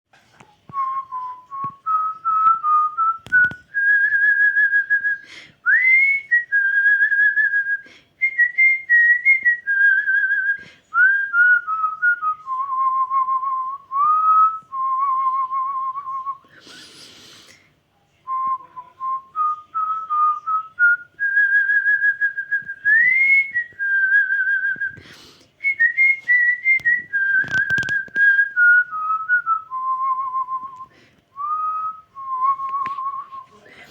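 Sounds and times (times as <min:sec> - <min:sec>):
person whistling a melody: 0:00.7 - 0:16.8, 0:18.3 - 0:33.7.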